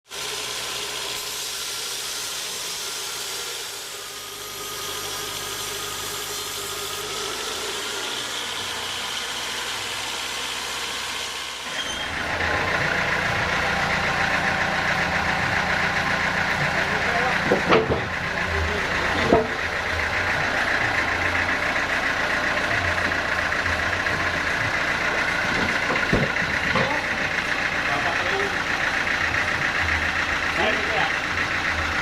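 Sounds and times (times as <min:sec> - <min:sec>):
sawmill machinery humming: 0:00.1 - 0:32.0.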